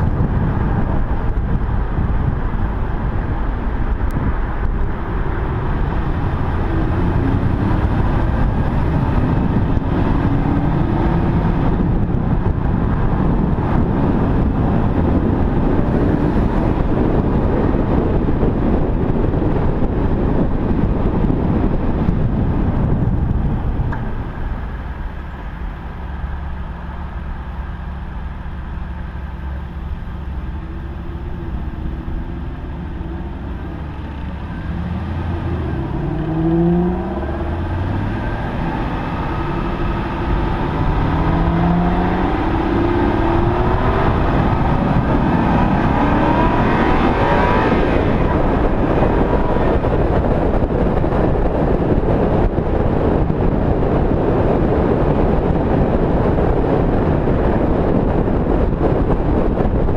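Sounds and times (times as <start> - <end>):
sports car engine accelerating: 0.0 - 59.9
wind and road noise: 0.0 - 59.9.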